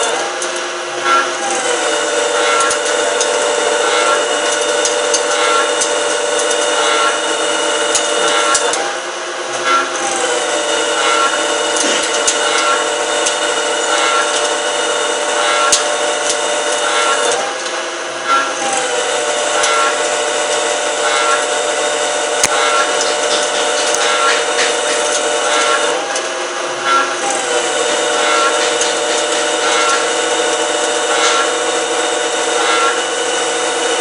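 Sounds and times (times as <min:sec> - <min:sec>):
lathe whine: 0:00.0 - 0:34.0
scraping cutting noise: 0:00.0 - 0:34.0.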